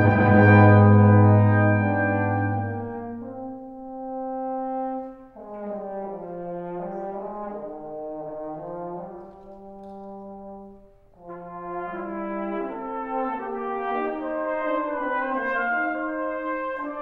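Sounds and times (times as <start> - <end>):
brass quartet playing chords: 0.0 - 17.0.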